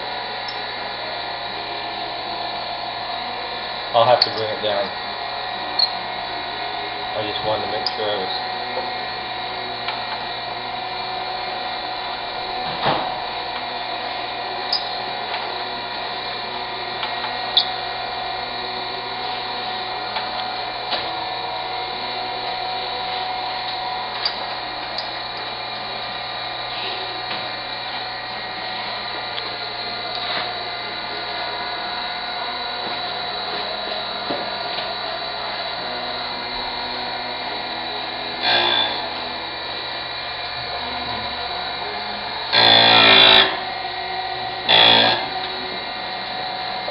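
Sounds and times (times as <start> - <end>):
grinder spindle whine: 0.0 - 46.9
grinding wheel grinding metal: 0.0 - 46.9.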